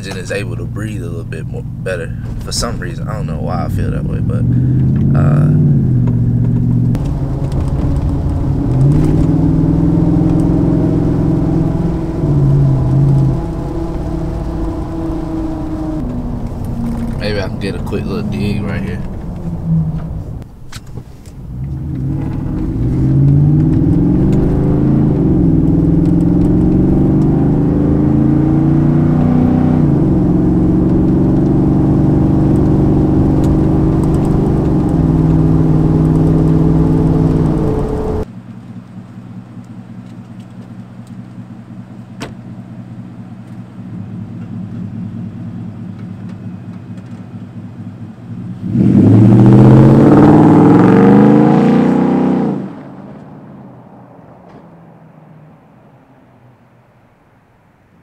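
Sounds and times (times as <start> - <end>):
truck engine accelerating: 0.0 - 20.7, 21.3 - 56.7.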